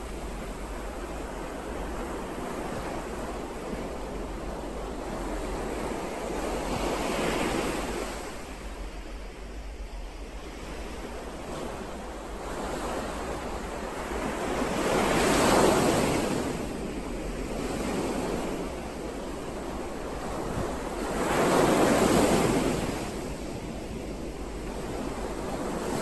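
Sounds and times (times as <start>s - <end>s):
large waves breaking and surging: 0.0s - 26.0s
steady surf: 0.0s - 26.0s.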